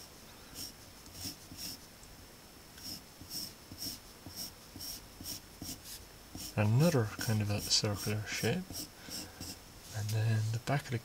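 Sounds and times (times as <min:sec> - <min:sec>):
pencil scratching on paper: 0:00.6 - 0:01.8, 0:02.8 - 0:10.6.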